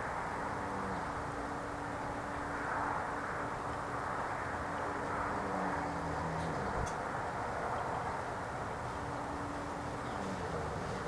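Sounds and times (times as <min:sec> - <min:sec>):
loud idling-like hum: 0:00.0 - 0:11.0.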